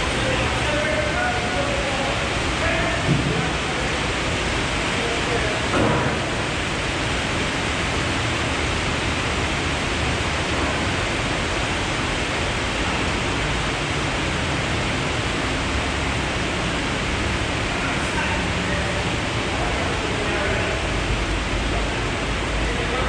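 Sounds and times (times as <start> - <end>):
rain on a metal roof: 0.0 - 23.0.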